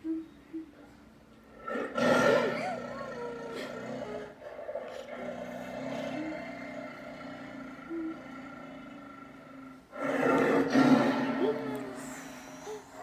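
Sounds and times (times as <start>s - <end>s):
tiger roar: 1.6s - 12.9s.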